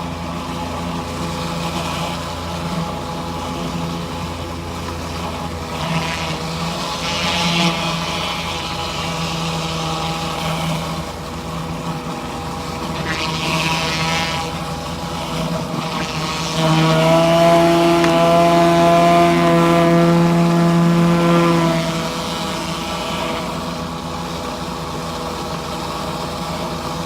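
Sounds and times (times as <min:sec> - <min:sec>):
pressure washer running: 0:00.0 - 0:27.0.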